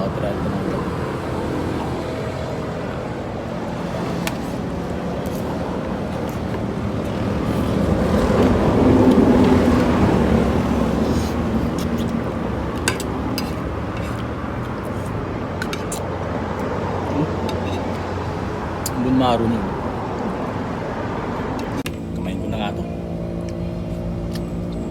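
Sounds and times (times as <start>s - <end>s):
motor vehicle passing: 0.0s - 24.9s
road traffic passing: 0.0s - 24.9s.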